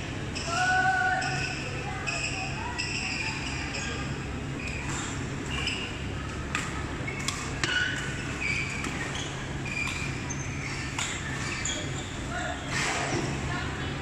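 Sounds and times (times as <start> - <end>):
low hum of hall: 0.0 - 14.0
shoes squeaking on court: 1.2 - 13.5.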